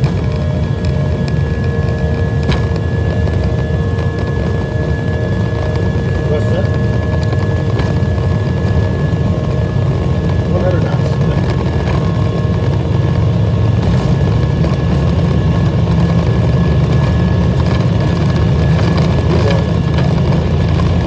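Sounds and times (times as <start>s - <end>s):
jet engine low rumble: 0.0s - 21.0s
jet engine whine: 0.0s - 21.0s.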